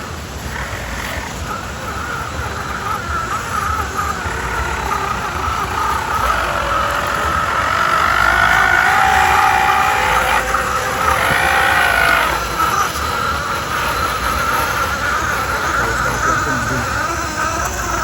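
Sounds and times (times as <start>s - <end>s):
electric motor and gears whining: 0.0s - 18.0s.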